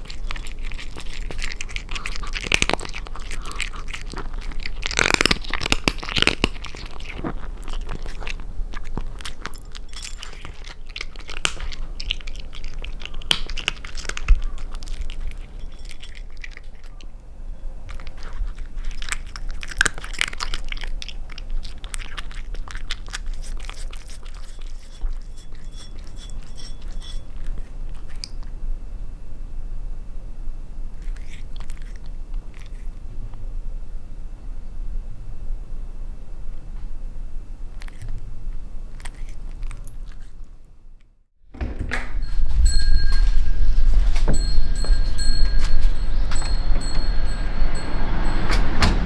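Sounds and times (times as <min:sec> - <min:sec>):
kitten crunching dry food: 0:00.0 - 0:28.7, 0:30.9 - 0:33.6, 0:36.6 - 0:40.9, 0:42.2 - 0:49.0.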